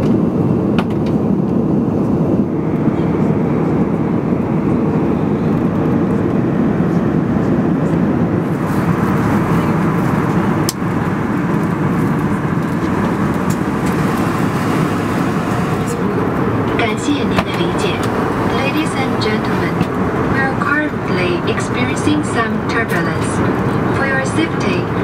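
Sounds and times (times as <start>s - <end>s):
airplane cabin noise: 0.0s - 25.0s.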